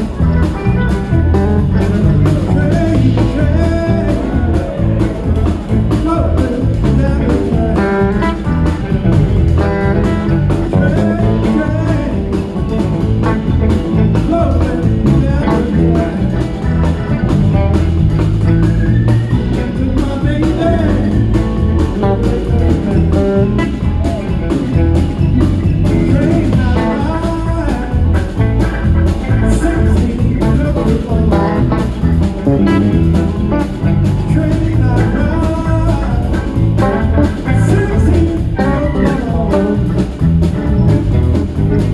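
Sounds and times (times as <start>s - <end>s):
bass guitar: 0.0s - 41.9s
drum kit: 0.0s - 41.9s
electric guitar lead lines: 0.0s - 41.9s.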